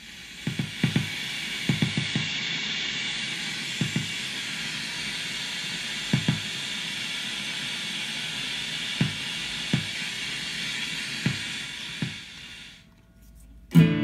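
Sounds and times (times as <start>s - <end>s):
vinyl-like hiss through guitar amp: 0.0s - 14.0s.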